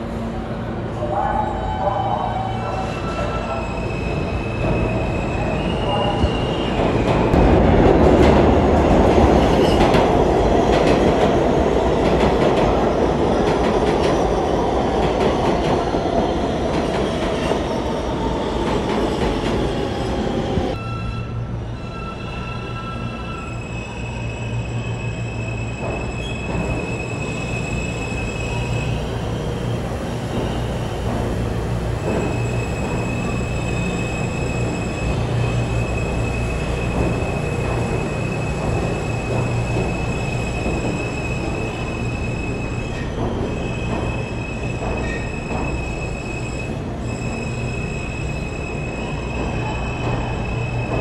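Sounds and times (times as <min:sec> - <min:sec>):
subway cars rumbling: 0:00.0 - 0:51.0.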